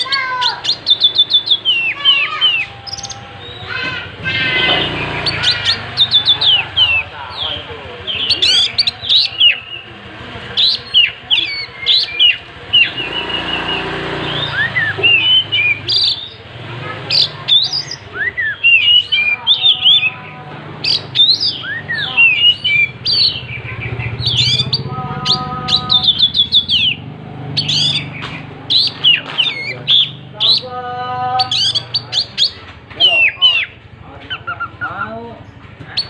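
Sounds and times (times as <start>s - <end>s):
magpie-robin singing: 0.0s - 36.0s.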